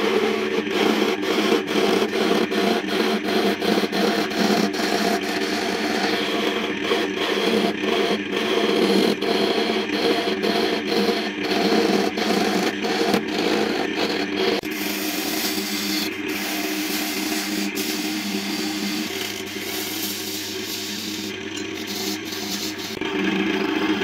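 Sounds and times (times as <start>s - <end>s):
chisel scraping spinning wood: 0.0s - 24.0s
wood lathe running: 0.0s - 24.0s.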